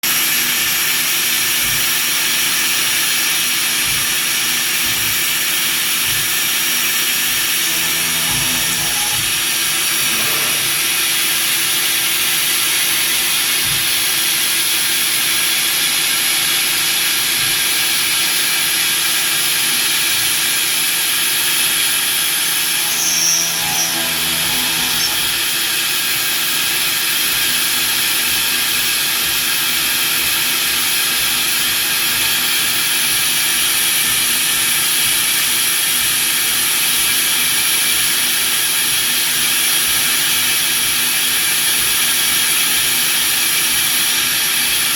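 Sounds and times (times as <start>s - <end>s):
cnc spindle hissing and whining: 0.1s - 44.9s.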